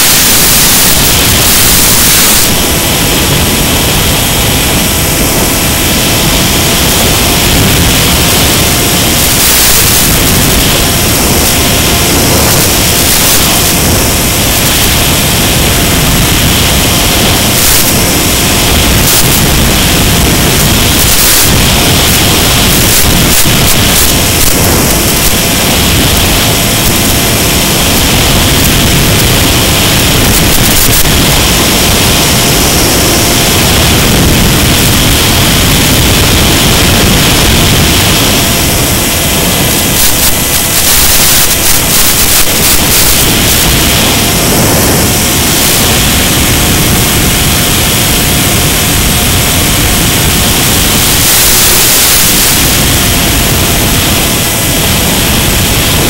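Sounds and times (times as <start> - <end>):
crackling flutters: 0.0 - 56.0
loud steady hiss: 0.0 - 56.0.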